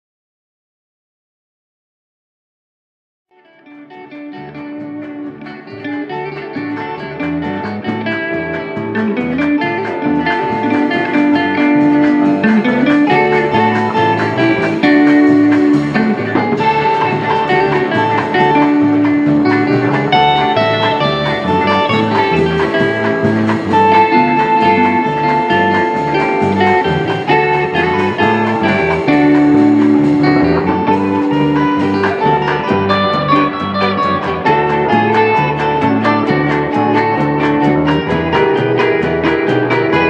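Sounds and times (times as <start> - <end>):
lead guitar lines: 3.3 - 40.0
country band instrumental: 3.4 - 40.0
bass rhythm: 4.3 - 40.0.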